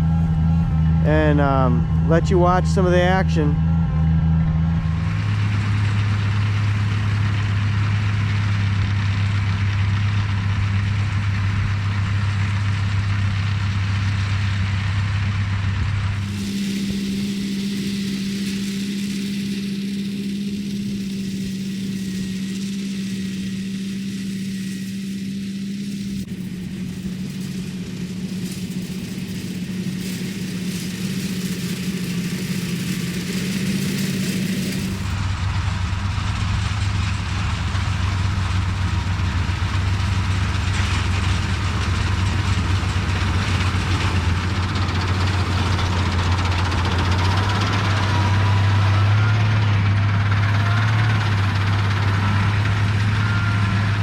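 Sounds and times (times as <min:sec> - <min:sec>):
swather engine running: 0:00.0 - 0:54.0.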